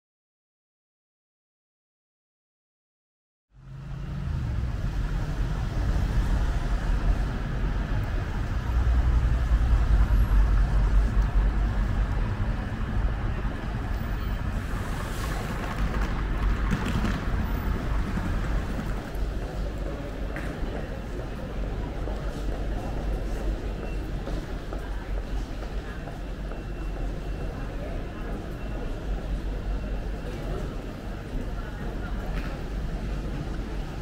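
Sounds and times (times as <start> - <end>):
traffic rumble: 3.5 - 34.0.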